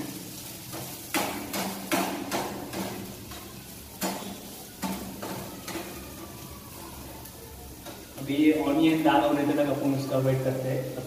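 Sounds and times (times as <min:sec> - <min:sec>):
faint frying sizzle: 0:00.0 - 0:11.0.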